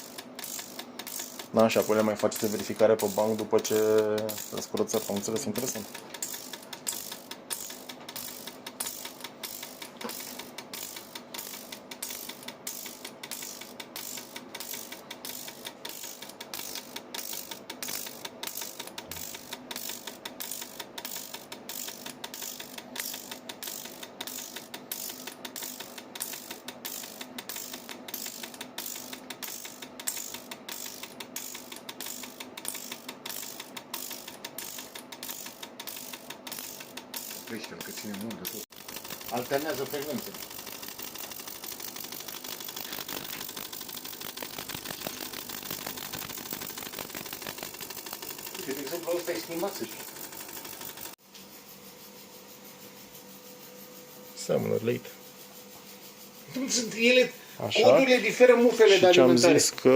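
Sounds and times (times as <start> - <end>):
fuel injectors clicking: 0.0 - 51.2
steady machine hum: 0.0 - 59.9.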